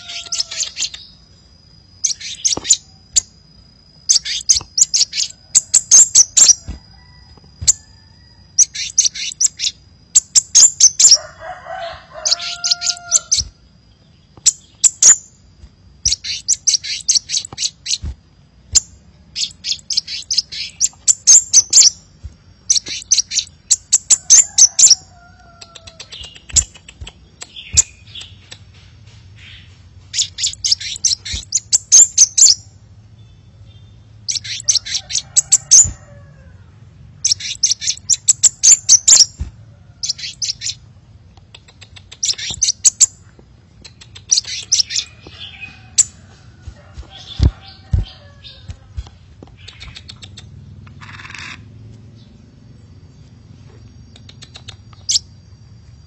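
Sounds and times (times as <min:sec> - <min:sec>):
bird song with high sharp chips: 0:00.0 - 0:36.0, 0:37.2 - 0:52.4, 0:53.2 - 0:56.0.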